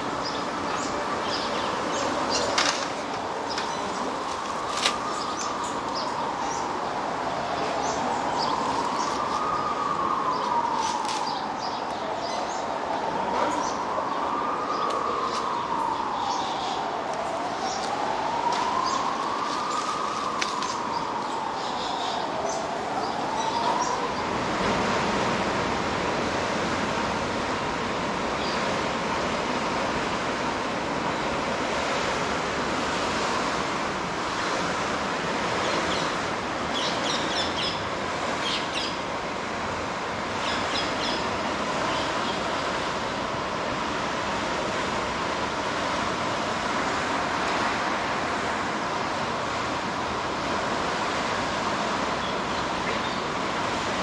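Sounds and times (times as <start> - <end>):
outdoor noise bed: 0.0 - 54.0.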